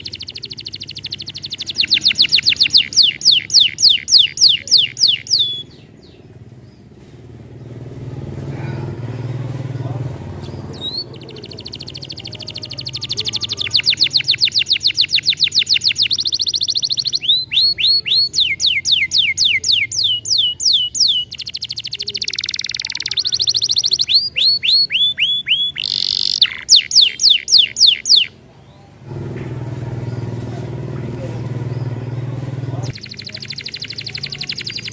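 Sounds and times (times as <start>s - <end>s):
canary singing trills: 0.0s - 7.0s, 9.8s - 29.0s, 31.1s - 34.9s.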